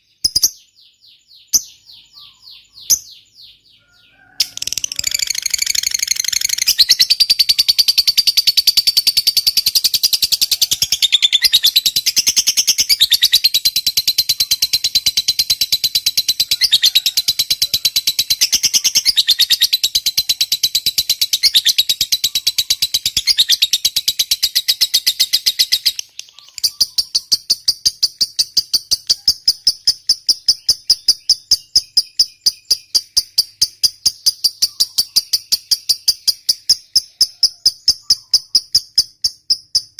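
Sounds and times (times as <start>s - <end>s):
lovebird chattering: 1.4s - 3.6s, 4.4s - 39.9s.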